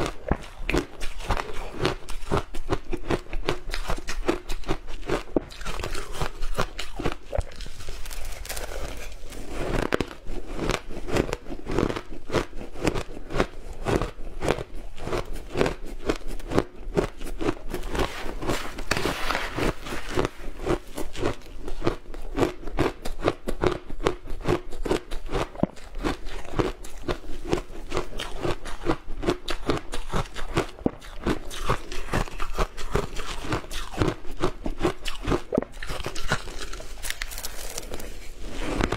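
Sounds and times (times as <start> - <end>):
crunchy food chewing: 0.0 - 38.9.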